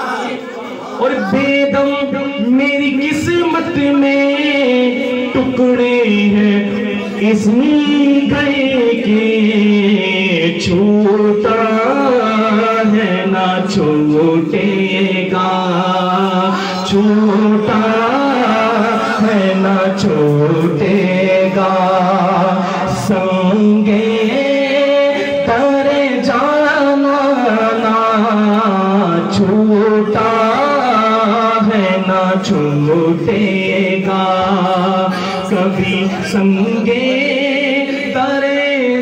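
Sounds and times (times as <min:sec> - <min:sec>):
man singing into microphone: 0:00.0 - 0:39.0.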